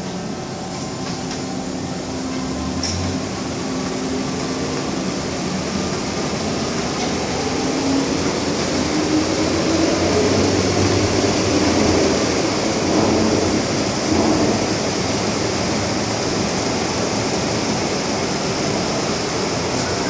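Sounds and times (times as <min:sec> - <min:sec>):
train car rumble: 0:00.0 - 0:20.0.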